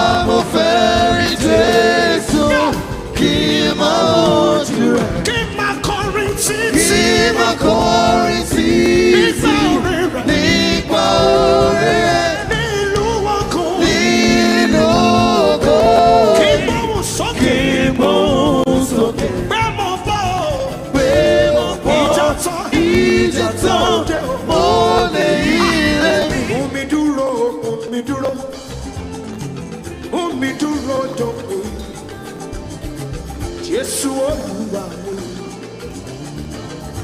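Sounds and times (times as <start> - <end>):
gospel singing with band: 0.0 - 37.0.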